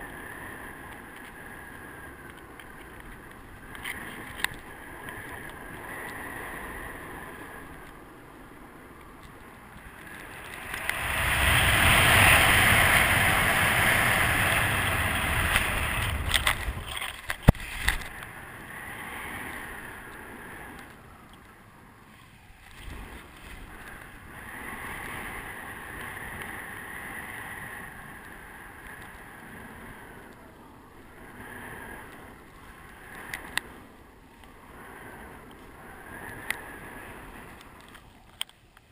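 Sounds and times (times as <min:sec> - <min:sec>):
wind rushing over microphone: 0:00.0 - 0:38.3.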